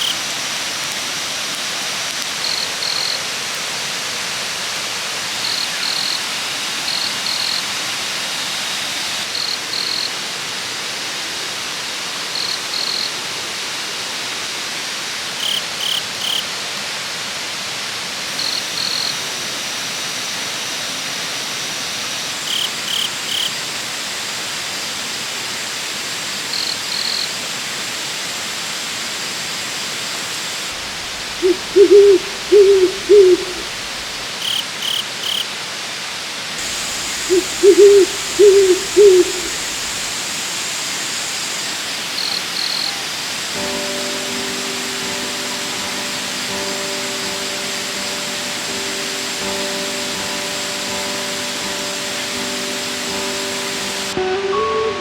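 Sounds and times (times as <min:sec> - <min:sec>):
waterfall rushing: 0:00.0 - 0:22.9, 0:27.4 - 0:54.3.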